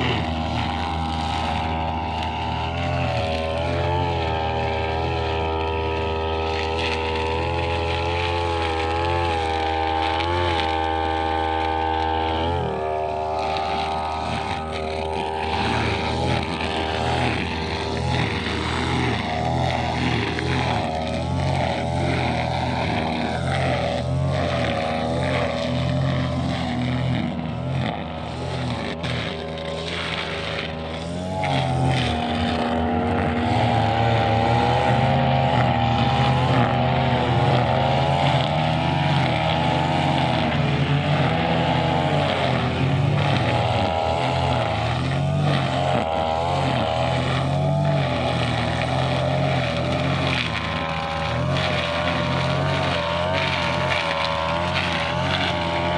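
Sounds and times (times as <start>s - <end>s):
brushcutter engine revving: 0.0s - 55.9s.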